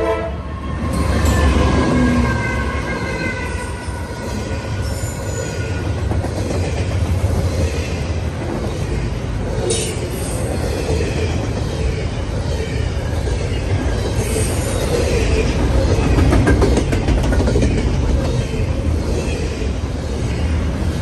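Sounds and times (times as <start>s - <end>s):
train wheels rumbling on rail: 0.0s - 21.0s
train cars clicking and rattling: 0.8s - 21.0s.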